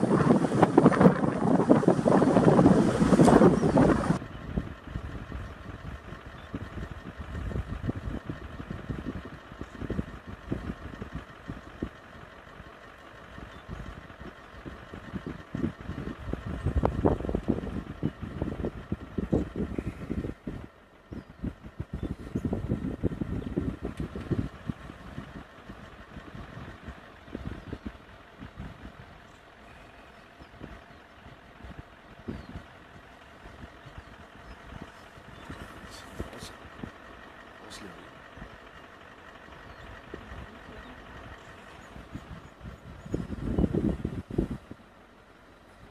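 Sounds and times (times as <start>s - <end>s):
low rumbles: 0.0s - 45.9s
vehicle engine idling: 0.0s - 45.9s.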